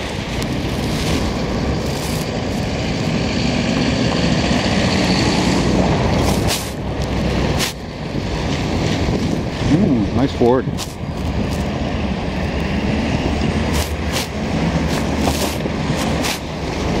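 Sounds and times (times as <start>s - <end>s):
heavier engine hum: 0.0s - 17.0s
tyres hissing on wet road: 0.0s - 17.0s
vehicle engines passing: 0.0s - 17.0s.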